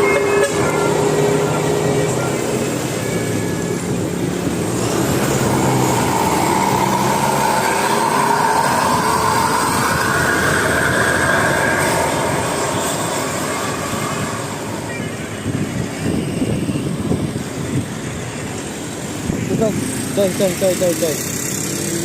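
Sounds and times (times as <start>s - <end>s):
rising whine: 0.0s - 19.3s
bus engine and road noise: 0.0s - 22.0s.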